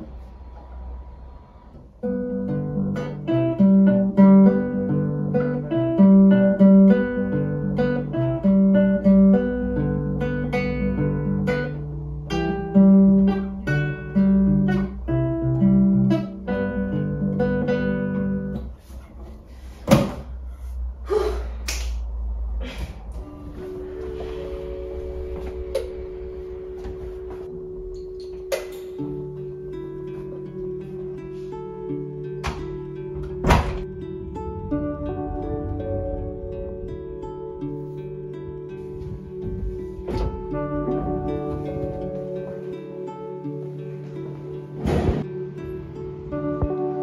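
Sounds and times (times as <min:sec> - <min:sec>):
classical guitar fingerstyle: 0:01.7 - 0:19.3, 0:23.2 - 0:47.0.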